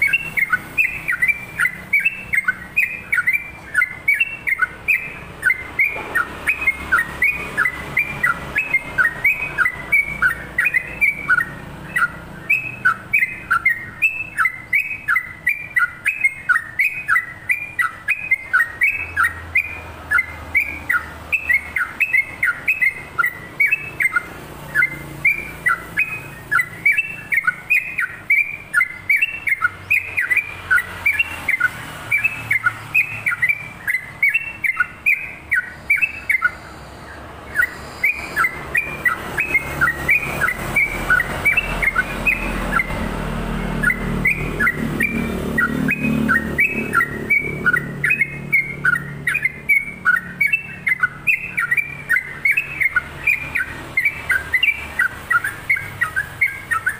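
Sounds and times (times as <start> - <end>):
bird singing slurred notes: 0.0 - 56.9.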